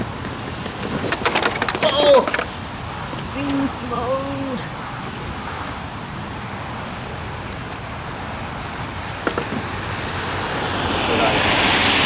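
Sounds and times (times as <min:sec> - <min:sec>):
traffic on wet road: 0:00.0 - 0:12.0
rain hiss: 0:02.1 - 0:12.0.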